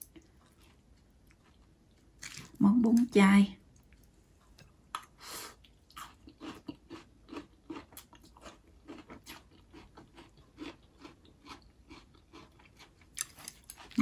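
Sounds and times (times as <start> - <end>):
person chewing crunchy food: 0.1 - 2.6, 5.0 - 14.0.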